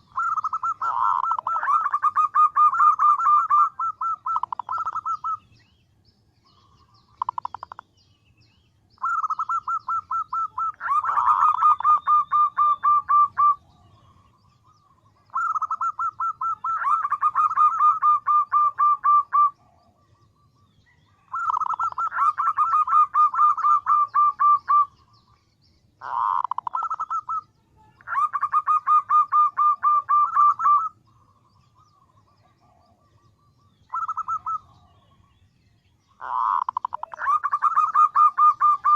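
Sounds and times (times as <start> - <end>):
dove cooing rapidly: 0.0 - 5.5, 6.6 - 7.8, 9.0 - 20.2, 20.9 - 25.1, 26.0 - 35.3, 36.1 - 38.9.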